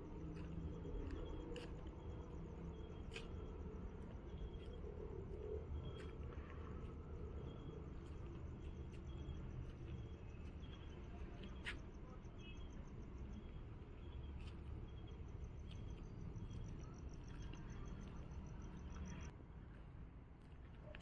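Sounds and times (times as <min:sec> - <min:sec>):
crickets chirping: 0:00.0 - 0:19.3.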